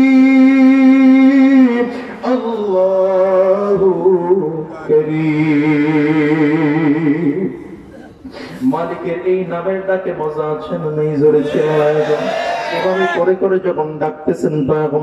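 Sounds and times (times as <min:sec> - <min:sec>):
man chanting melodically: 0:00.0 - 0:07.6, 0:08.7 - 0:15.0.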